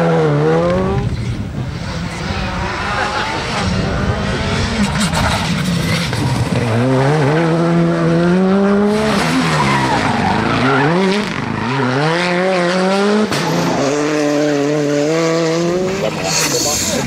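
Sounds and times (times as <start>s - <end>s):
rally car engines revving: 0.0s - 17.0s
tyres skidding: 0.7s - 17.0s.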